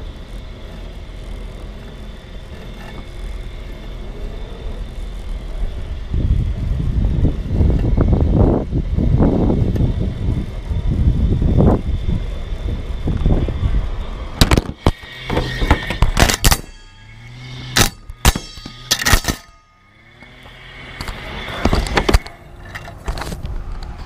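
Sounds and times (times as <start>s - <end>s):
robotic lawn mower rumble: 0.0s - 24.0s.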